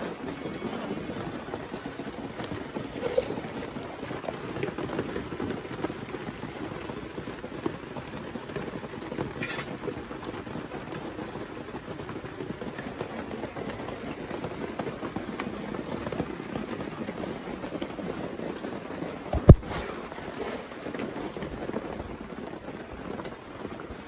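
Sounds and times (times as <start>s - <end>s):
rain on a canvas tent: 0.0s - 24.0s.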